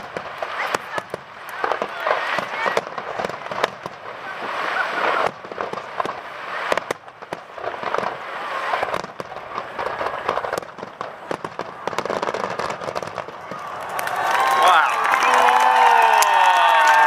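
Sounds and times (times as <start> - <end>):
firework shells bursting: 0.0 - 14.2
fireworks crackling: 0.0 - 17.0.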